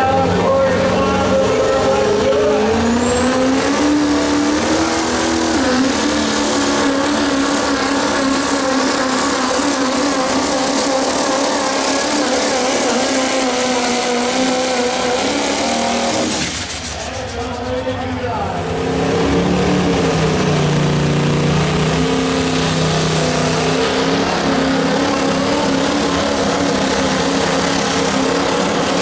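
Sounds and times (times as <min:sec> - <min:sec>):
diesel engine at high revs: 0:00.0 - 0:29.0.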